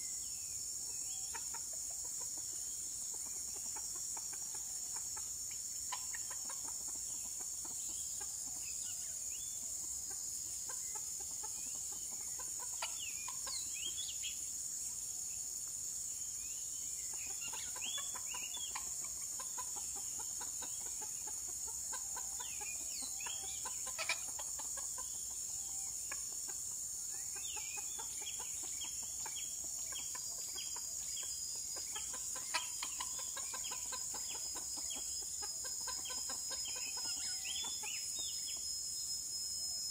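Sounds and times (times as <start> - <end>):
insects droning: 0.0 - 39.9
junglefowl clucking: 0.8 - 14.4, 17.1 - 38.6.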